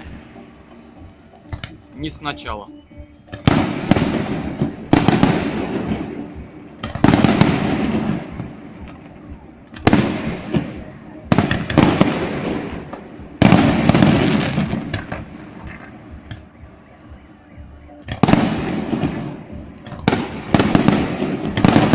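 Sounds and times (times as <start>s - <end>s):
fireworks bursting with loud bangs: 3.2s - 16.8s, 18.0s - 21.9s.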